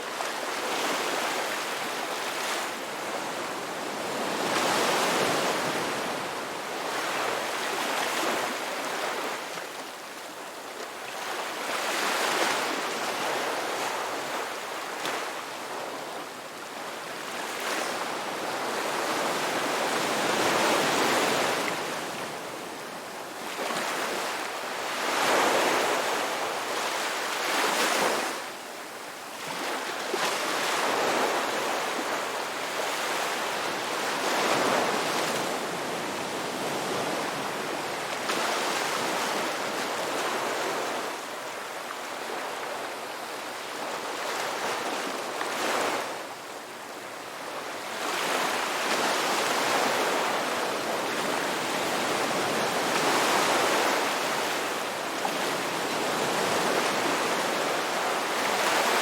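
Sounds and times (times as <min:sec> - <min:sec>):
waves breaking and washing up: 0:00.0 - 0:09.9, 0:10.8 - 0:28.6, 0:29.3 - 0:59.0.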